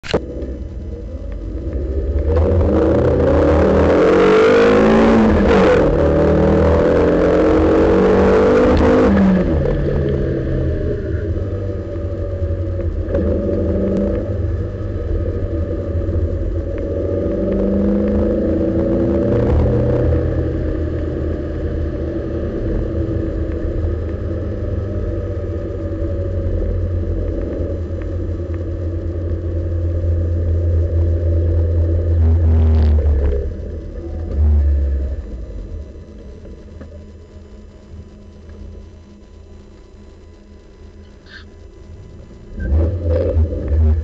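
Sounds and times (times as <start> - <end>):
car engine accelerating and decelerating: 0.0 - 37.1, 41.3 - 44.0
road noise drone: 0.0 - 44.0.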